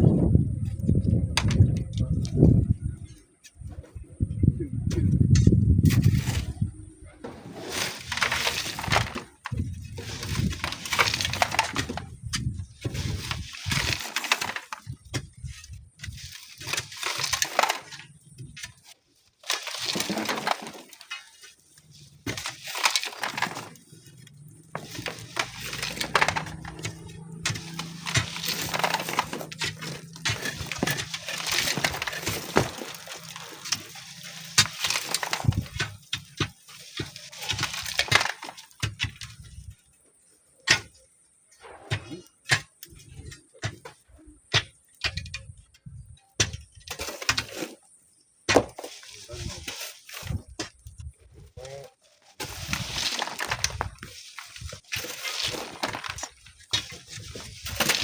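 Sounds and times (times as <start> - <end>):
scraping and crunching sand and stones: 0.0 - 58.0.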